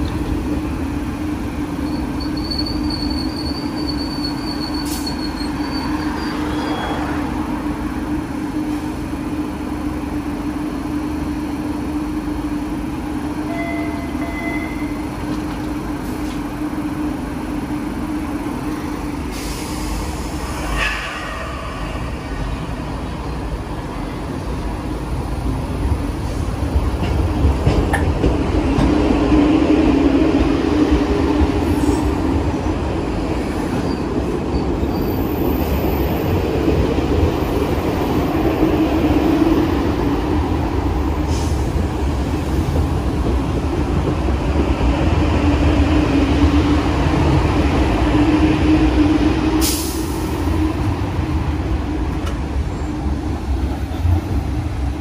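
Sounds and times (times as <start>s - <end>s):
subway train rumbling: 0.0s - 55.0s.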